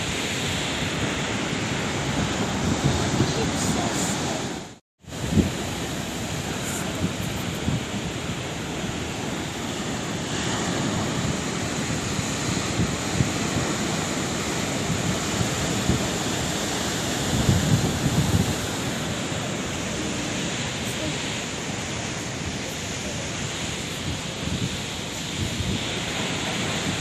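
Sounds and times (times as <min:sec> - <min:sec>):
sea waves washing on shore: 0:00.0 - 0:27.0
wind buffeting microphone: 0:00.0 - 0:27.0.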